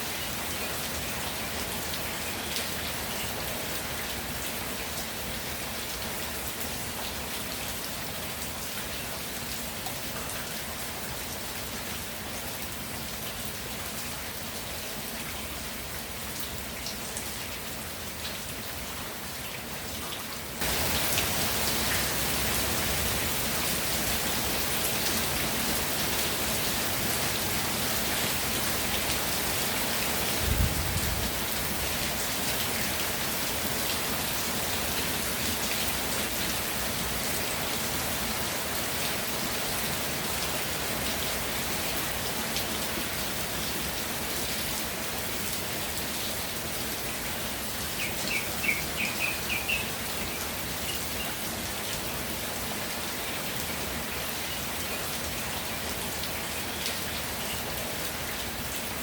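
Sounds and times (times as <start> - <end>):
rainfall: 0.0 - 59.0.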